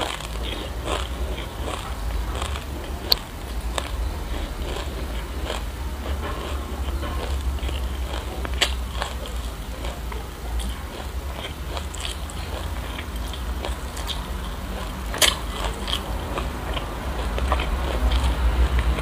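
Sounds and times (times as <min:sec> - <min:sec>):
crunchy chewing: 0:00.0 - 0:19.0
steady low hum: 0:00.0 - 0:19.0.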